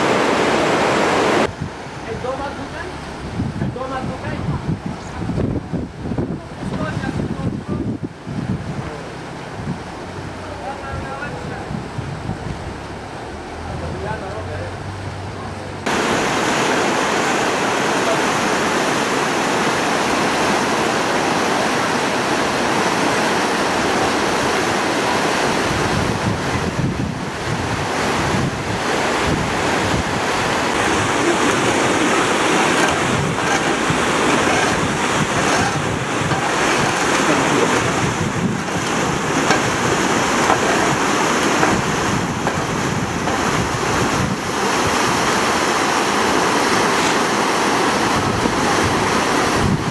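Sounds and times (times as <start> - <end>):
flood stream rushing over rocks: 0.0 - 49.9.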